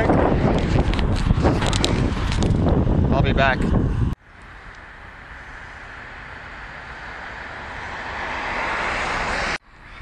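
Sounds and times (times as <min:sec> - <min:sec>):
approaching vehicle tyres and engine: 0:00.0 - 0:10.0.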